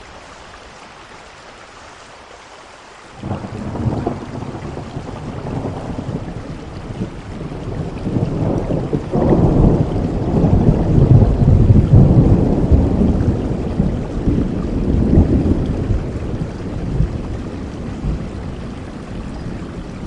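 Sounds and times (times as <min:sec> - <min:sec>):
rain falling: 0:00.0 - 0:20.0
deep rumble of thunder: 0:03.2 - 0:20.0.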